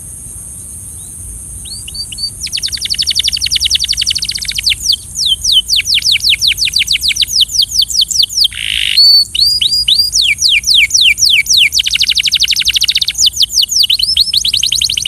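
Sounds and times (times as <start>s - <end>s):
steady high hiss: 0.0s - 15.0s
canary singing trills: 1.0s - 15.0s.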